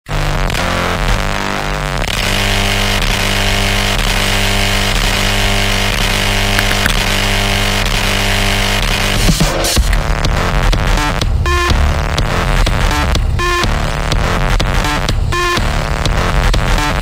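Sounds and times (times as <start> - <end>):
distorted buzzing drone: 0.1 - 17.0.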